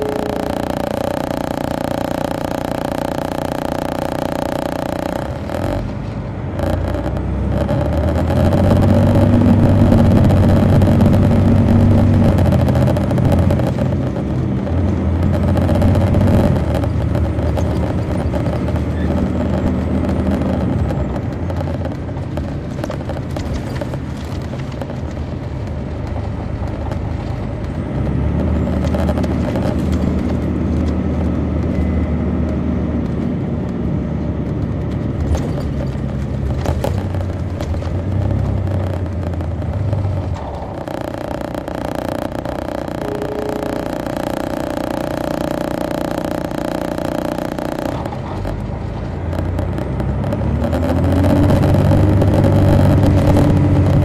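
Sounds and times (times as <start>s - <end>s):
diesel bus engine pulling hard: 0.0s - 54.0s.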